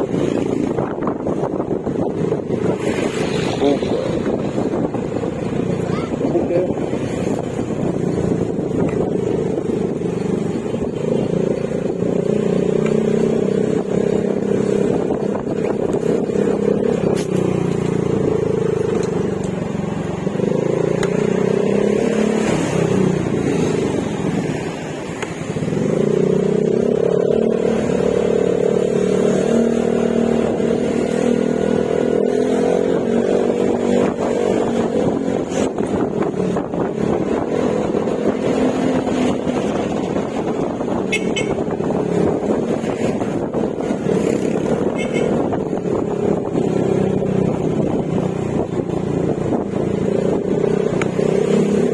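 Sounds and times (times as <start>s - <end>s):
scooter engine cruising: 0.0s - 51.9s.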